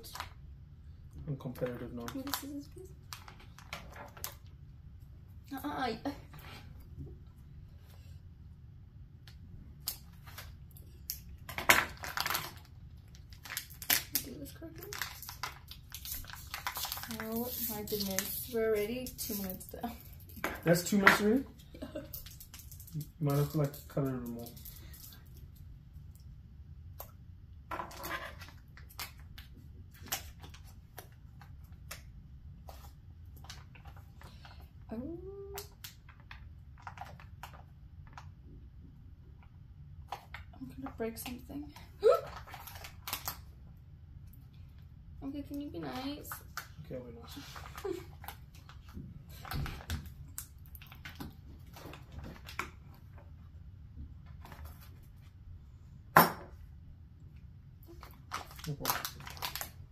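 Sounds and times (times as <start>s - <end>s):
low room hum: 0.0s - 59.9s.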